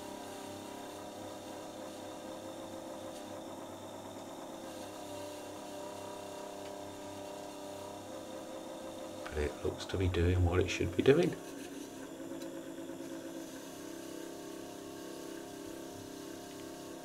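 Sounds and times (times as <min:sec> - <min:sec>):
lathe motor hum and whine: 0:00.0 - 0:17.0.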